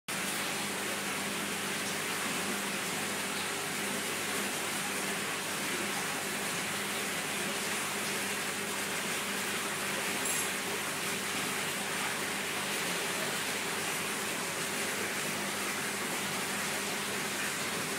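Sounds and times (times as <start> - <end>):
faint low pump hum: 0.1 - 17.9
rushing water and air bubbles: 0.1 - 17.9.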